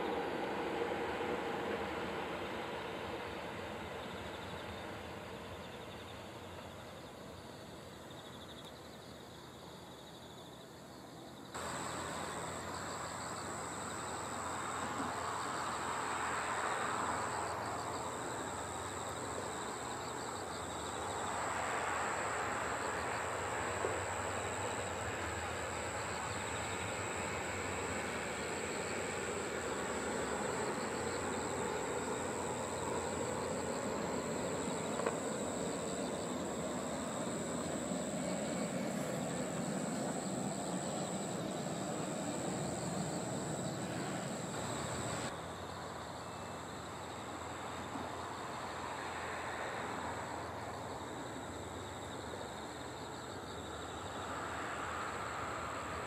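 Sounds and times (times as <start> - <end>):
distant high-speed train rushing: 0.0 - 7.9, 11.6 - 56.0.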